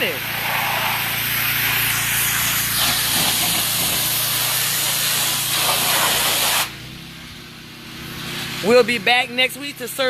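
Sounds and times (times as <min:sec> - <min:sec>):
pressure washer spraying: 0:00.0 - 0:09.4.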